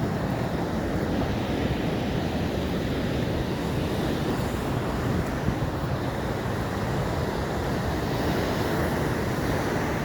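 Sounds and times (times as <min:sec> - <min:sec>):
waves breaking: 0:00.0 - 0:10.0.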